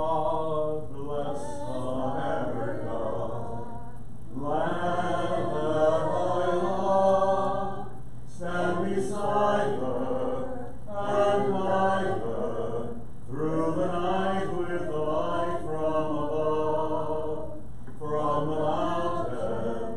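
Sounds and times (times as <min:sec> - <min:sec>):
low voices chanting: 0:00.0 - 0:19.9.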